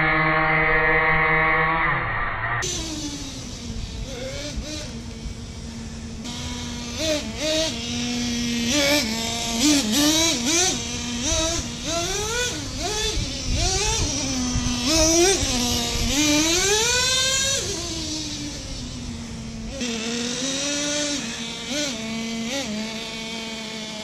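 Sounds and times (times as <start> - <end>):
model car engine revving: 0.0 - 24.0.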